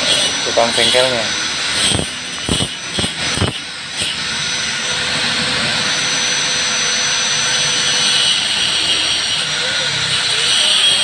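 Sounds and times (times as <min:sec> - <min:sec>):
angle grinder grinding metal: 0:00.0 - 0:11.0.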